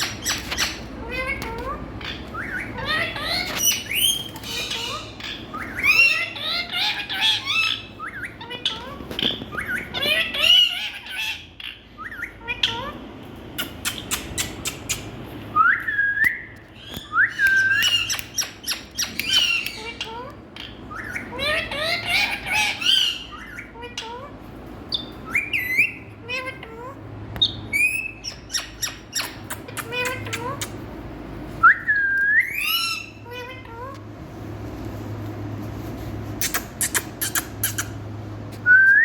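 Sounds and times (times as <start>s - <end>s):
parrots squawking and chattering: 0.0s - 16.0s, 16.7s - 31.6s, 32.4s - 38.6s.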